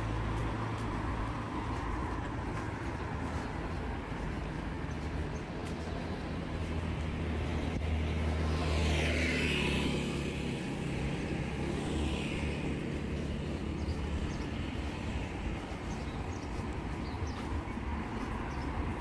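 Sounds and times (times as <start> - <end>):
cars passing: 0.0 - 19.0.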